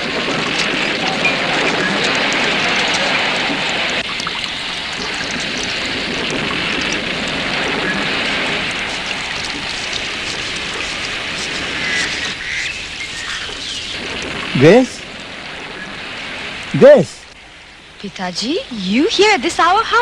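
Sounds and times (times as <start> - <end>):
heavy rain: 0.0 - 20.0
raindrops ticking on surfaces: 0.0 - 20.0.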